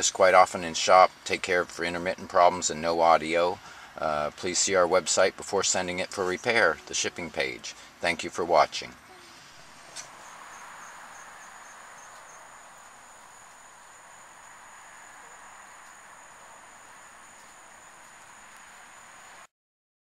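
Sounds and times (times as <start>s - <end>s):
faint high-pitched whine: 0.0s - 19.5s
steady background hiss: 0.0s - 19.5s.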